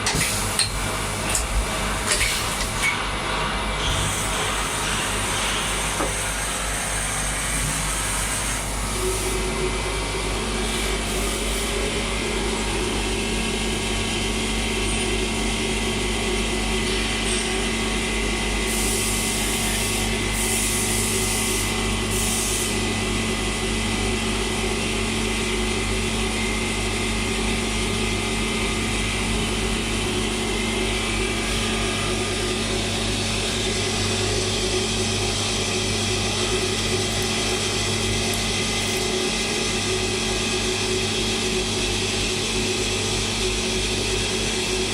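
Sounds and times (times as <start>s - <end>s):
cnc machine humming: 0.0s - 44.9s.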